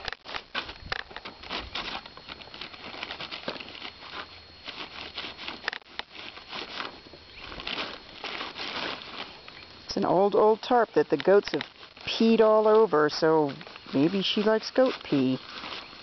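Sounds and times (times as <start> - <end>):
plastic tarp crinkling: 0.0 - 16.0.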